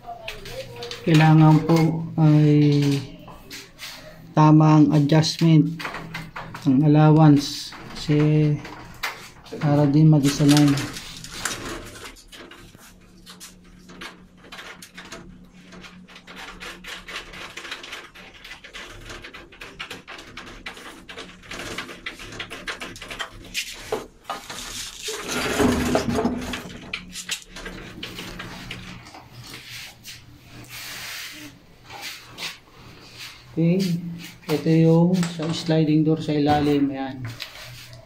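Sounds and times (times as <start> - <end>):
handling noise: 0.0 - 38.0.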